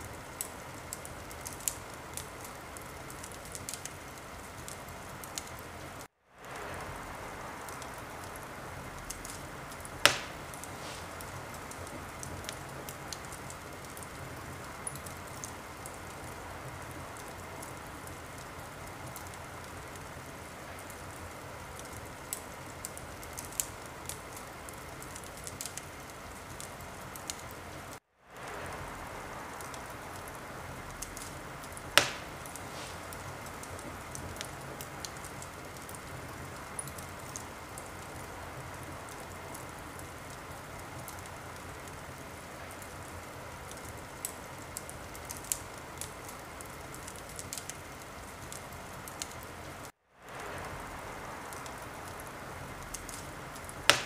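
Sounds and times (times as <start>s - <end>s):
fire crackles and pops: 0.0s - 54.0s
hiss of fire flames: 0.0s - 54.0s.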